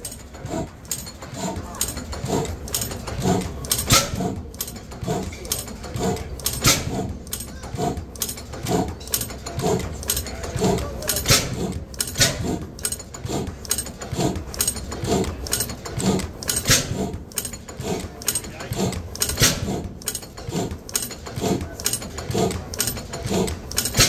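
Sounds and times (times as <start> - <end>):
gas engine valve gear clacking: 0.0 - 24.0.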